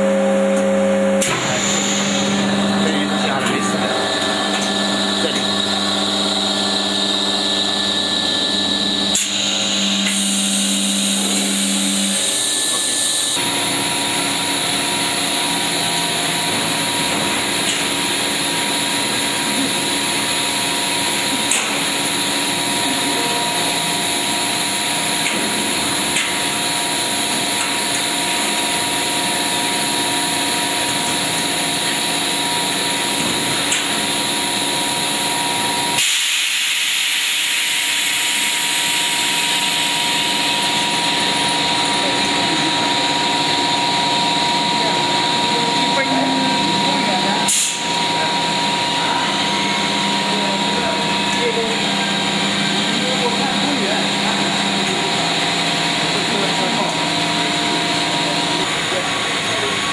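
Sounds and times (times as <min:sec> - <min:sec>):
machine hum and hiss: 0:00.0 - 0:59.9.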